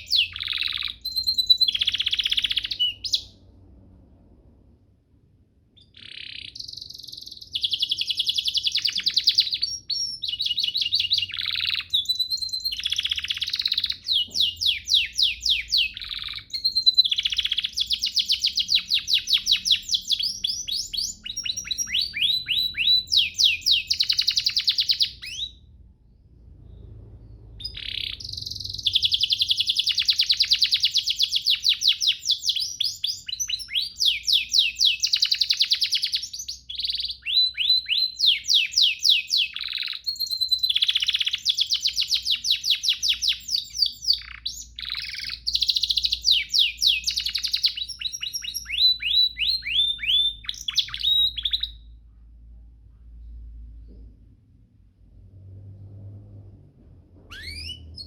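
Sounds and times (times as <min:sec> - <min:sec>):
canary singing trills: 0:00.0 - 0:03.5, 0:05.8 - 0:25.8, 0:26.8 - 0:52.1, 0:57.2 - 0:58.0.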